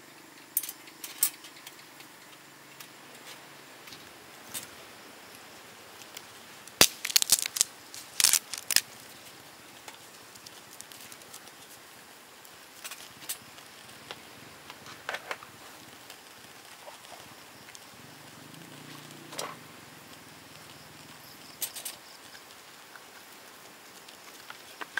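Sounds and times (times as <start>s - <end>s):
wood fire crackling and popping: 1.6s - 24.9s.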